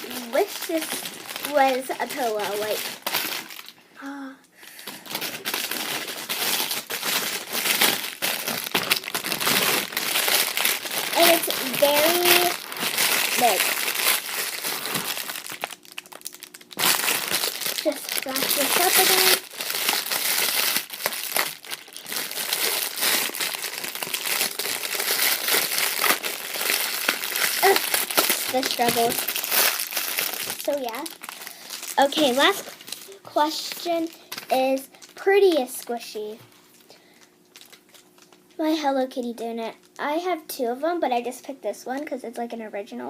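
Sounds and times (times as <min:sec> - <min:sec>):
plastic packaging crinkling: 0:00.0 - 0:03.8, 0:04.6 - 0:38.5.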